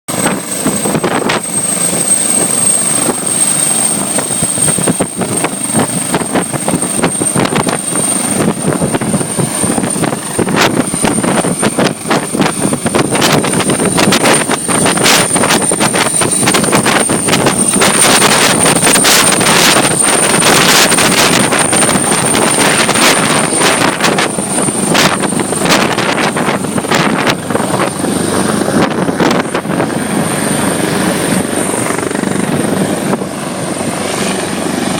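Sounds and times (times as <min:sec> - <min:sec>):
helicopter rotor noise: 0:00.1 - 0:34.9
high-pitched whine: 0:00.1 - 0:34.9.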